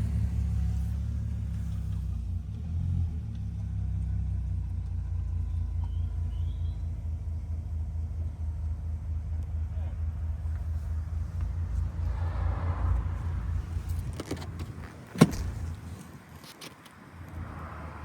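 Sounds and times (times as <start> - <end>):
car engine low rumble: 0.0 - 18.0.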